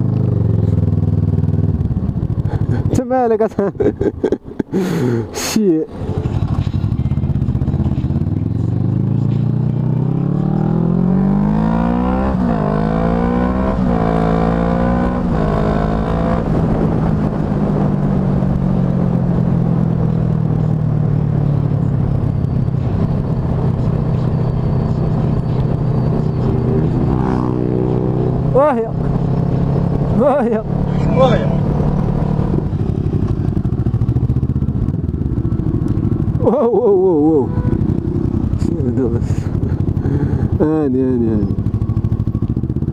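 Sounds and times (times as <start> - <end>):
motorcycle engine accelerating: 0.0 - 4.2, 5.9 - 42.9.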